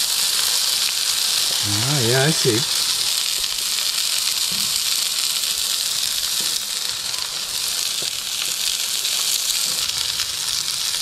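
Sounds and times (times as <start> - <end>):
burger patties sizzling on grill: 0.0 - 11.0.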